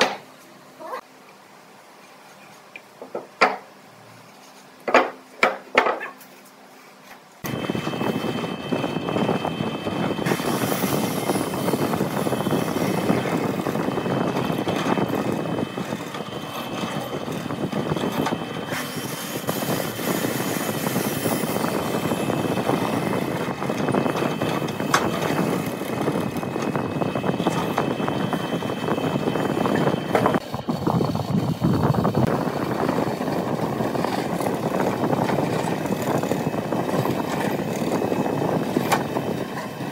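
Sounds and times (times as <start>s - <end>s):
drill bit boring wood: 7.4s - 39.9s
drill press motor whine: 7.4s - 39.9s.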